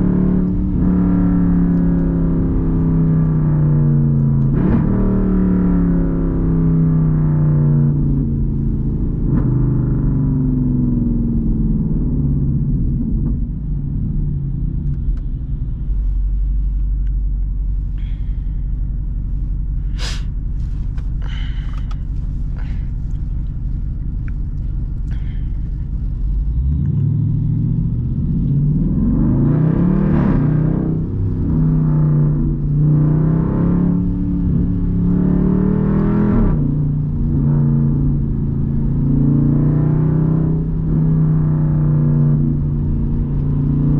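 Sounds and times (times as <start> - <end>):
car exhaust drone: 0.0 - 43.9.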